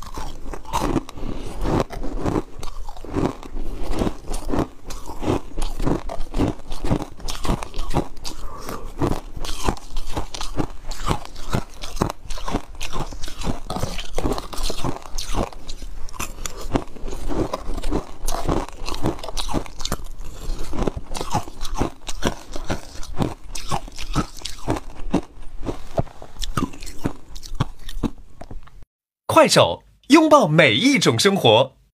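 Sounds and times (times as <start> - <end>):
ice cubes crunching: 0.0 - 28.2.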